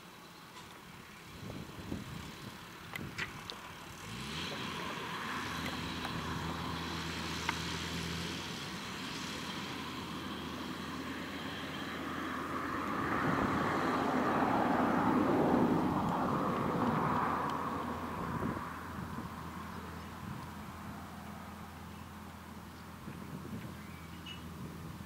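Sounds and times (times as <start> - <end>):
tractor engine running: 0.6 - 25.0.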